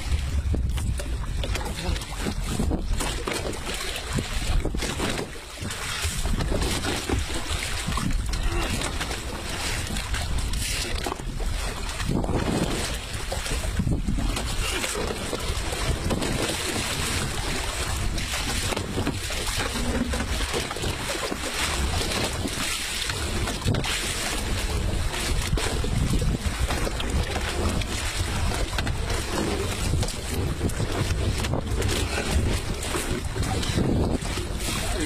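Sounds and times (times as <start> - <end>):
wind buffeting microphone: 0.0 - 21.1, 21.7 - 35.0
sea water washing around boat: 0.0 - 35.0.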